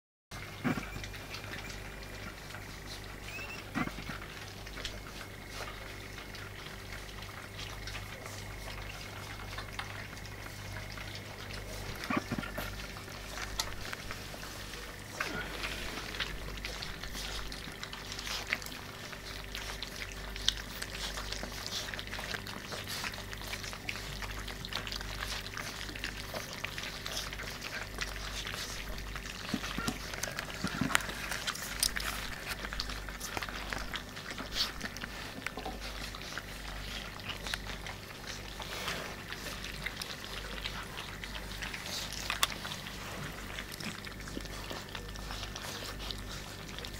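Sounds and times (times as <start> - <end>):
puppies crunching kibble: 0.3 - 46.9.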